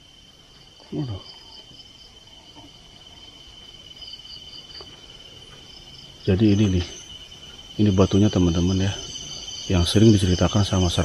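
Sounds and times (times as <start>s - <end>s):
insects trilling: 0.0s - 11.0s
pulsing insect chirping: 0.0s - 11.0s.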